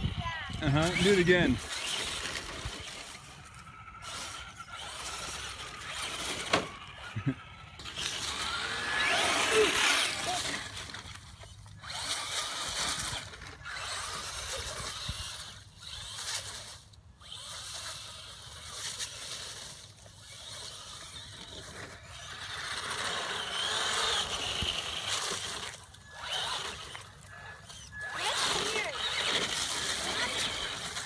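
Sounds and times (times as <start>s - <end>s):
electric motor whining: 0.0s - 31.0s.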